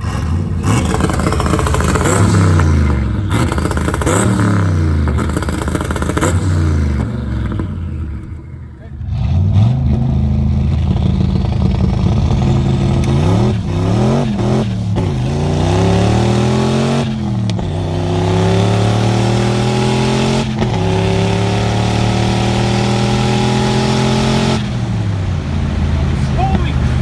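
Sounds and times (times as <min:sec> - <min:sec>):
engine revving on rev limiter: 0:00.0 - 0:27.0.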